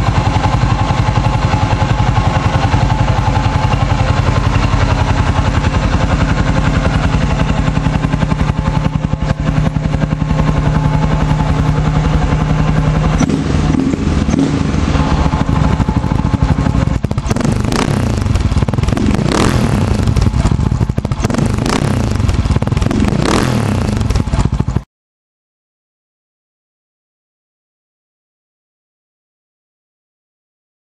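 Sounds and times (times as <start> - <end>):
motorcycle engine idling and revving: 0.0 - 24.9.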